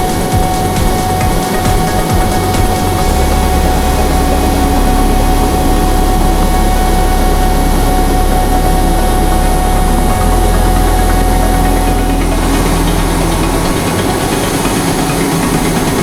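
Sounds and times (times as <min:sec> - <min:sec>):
turboprop engine running: 0:00.0 - 0:16.0.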